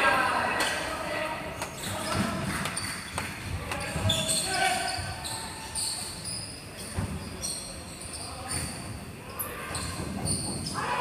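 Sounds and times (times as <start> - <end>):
shoe squeaks: 1.6 - 11.0.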